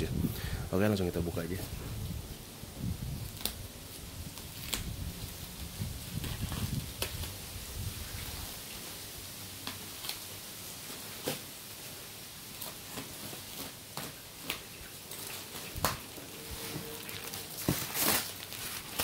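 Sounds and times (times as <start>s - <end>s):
plastic crinkling: 3.1s - 19.0s.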